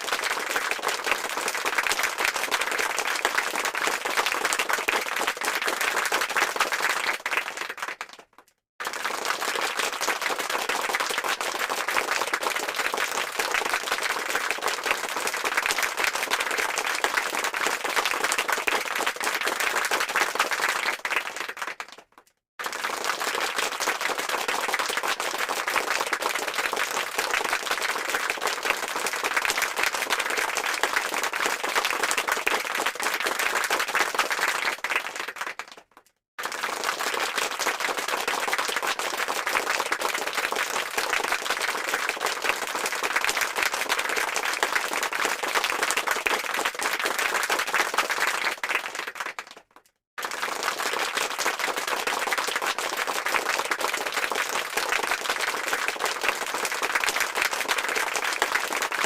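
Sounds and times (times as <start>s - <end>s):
crowd applause: 0.0s - 35.8s, 36.4s - 49.6s, 50.2s - 59.0s.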